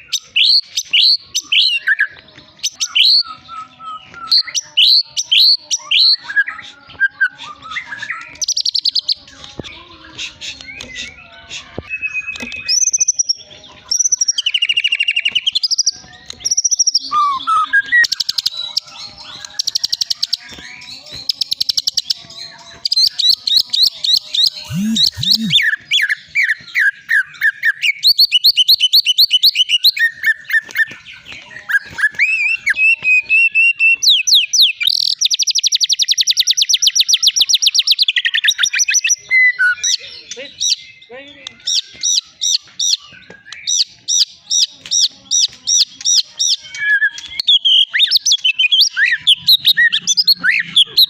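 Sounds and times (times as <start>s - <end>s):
bird singing varied song: 0.0s - 51.0s.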